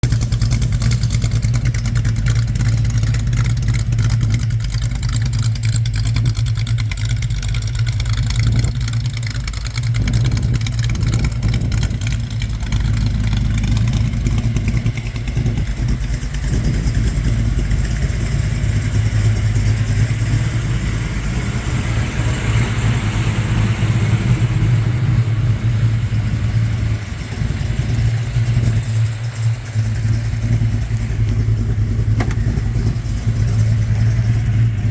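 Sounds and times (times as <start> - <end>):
car engine running steadily: 0.0 - 34.9.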